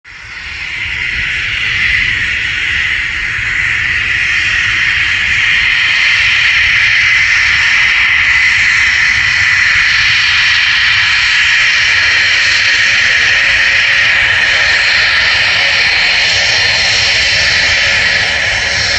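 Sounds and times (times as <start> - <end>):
jet engine whine and hiss: 0.1 - 18.9.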